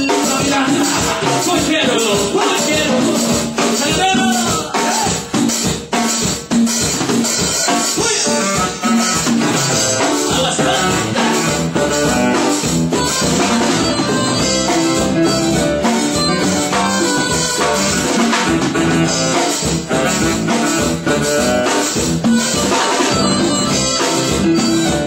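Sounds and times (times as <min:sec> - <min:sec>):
drum kit with cymbals: 0:00.0 - 0:25.0
guitar: 0:00.0 - 0:25.0
live band playing loud music: 0:00.0 - 0:25.0.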